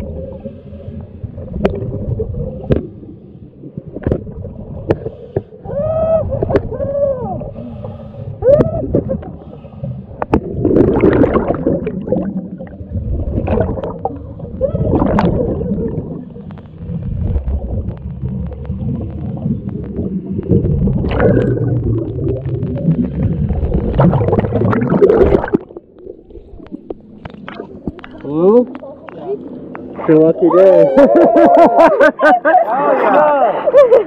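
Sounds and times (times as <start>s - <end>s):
underwater bubbles gurgling: 0.0s - 30.1s.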